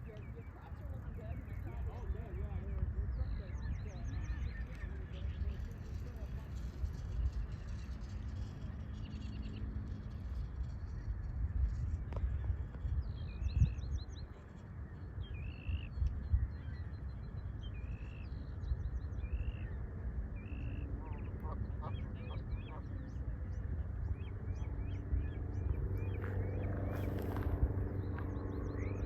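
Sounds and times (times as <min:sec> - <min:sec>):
low engine hum: 0:00.0 - 0:29.0
songbirds calling: 0:00.0 - 0:29.0
wind rumble: 0:00.0 - 0:29.0.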